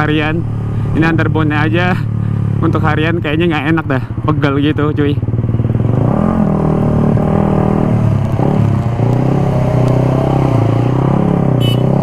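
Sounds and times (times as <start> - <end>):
motorcycle engine while riding: 0.0 - 12.0.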